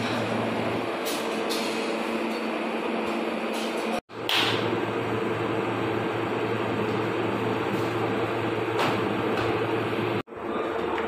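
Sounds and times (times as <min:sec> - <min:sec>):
kitchen machinery humming: 0:00.0 - 0:11.0.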